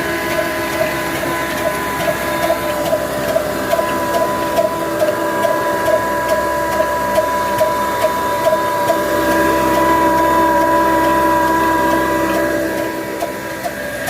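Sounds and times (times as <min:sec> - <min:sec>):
diesel engine running: 0:00.0 - 0:14.0
steady high whine: 0:00.0 - 0:14.0.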